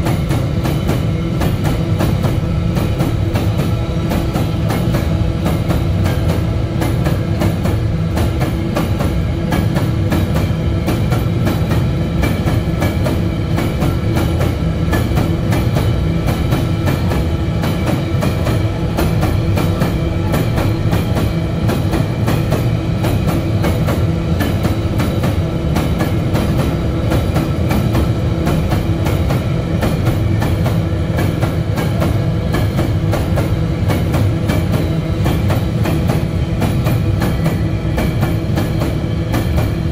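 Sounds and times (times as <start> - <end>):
train rumble: 0.0 - 39.9
train wheels clickety-clack: 0.0 - 39.9.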